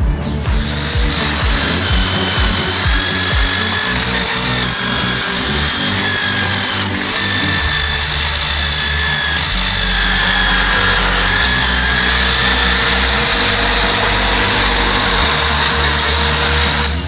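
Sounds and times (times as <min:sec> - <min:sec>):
background music with beat: 0:00.0 - 0:17.0
power tool whining: 0:00.0 - 0:17.0.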